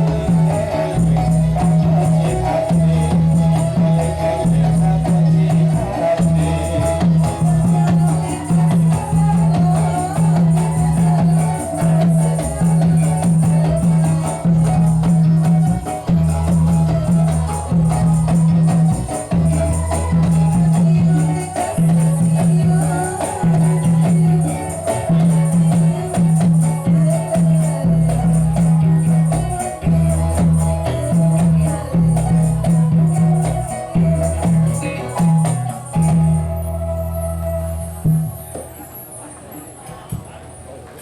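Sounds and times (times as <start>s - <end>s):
low rhythmic drum beat: 0.0s - 38.8s
shaken jingling percussion: 0.0s - 40.6s.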